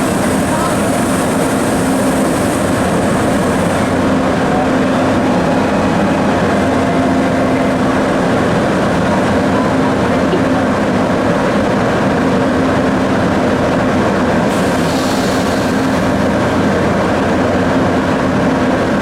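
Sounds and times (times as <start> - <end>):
train rumbling with hum: 0.0 - 19.0.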